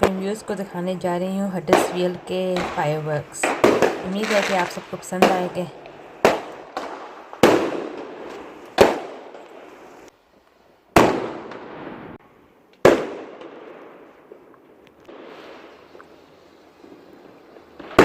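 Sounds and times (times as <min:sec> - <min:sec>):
fireworks bangs: 0:00.0 - 0:10.2, 0:10.9 - 0:12.2, 0:12.8 - 0:18.0.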